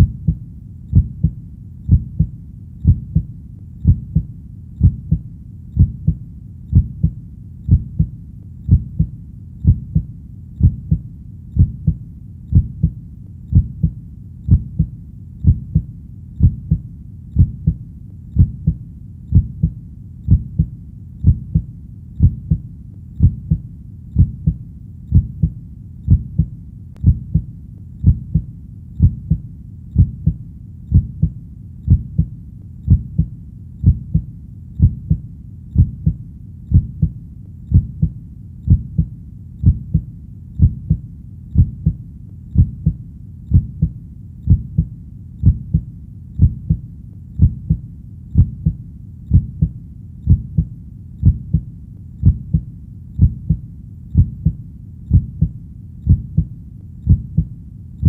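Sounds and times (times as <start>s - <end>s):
heartbeat double thump: 0.0s - 5.2s, 5.8s - 8.1s, 8.7s - 11.0s, 11.6s - 16.8s, 18.4s - 22.6s, 23.2s - 23.6s, 24.2s - 29.4s, 30.0s - 32.3s, 32.9s - 35.2s, 35.8s - 41.0s, 41.6s - 42.0s, 42.6s - 46.8s, 47.4s - 47.8s, 48.4s - 49.7s, 50.3s - 52.6s, 53.2s - 53.6s, 54.2s - 56.5s, 57.1s - 57.5s.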